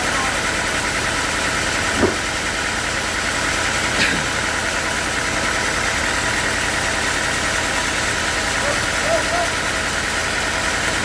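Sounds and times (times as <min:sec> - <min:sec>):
sawmill machinery humming: 0:00.0 - 0:11.0.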